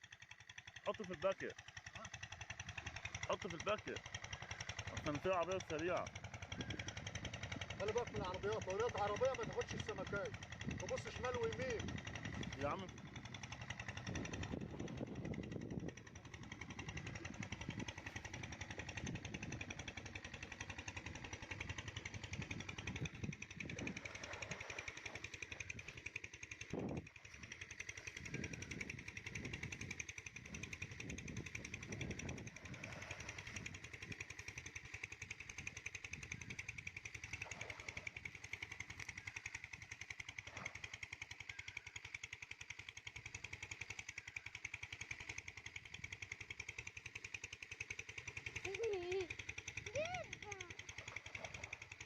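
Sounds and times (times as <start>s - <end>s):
small engine rattling: 0.0s - 52.0s.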